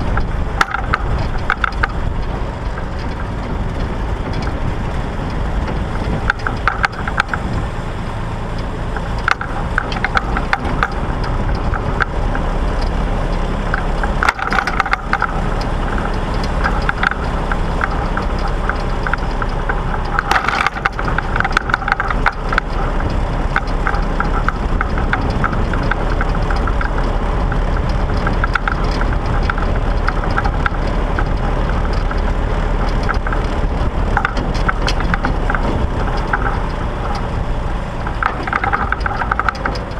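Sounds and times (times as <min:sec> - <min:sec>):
rattling and clanking: 0:00.0 - 0:39.9
tractor engine running: 0:00.0 - 0:39.9.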